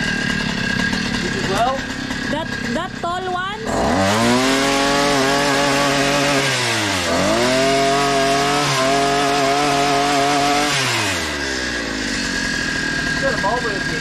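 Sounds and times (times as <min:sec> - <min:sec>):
pole saw cutting a branch: 0:00.0 - 0:14.0.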